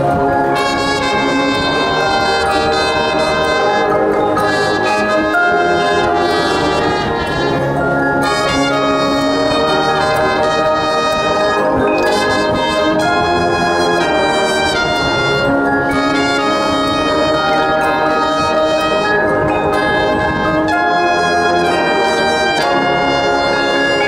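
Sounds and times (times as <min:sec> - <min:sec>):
brass band playing held chords: 0:00.0 - 0:24.0.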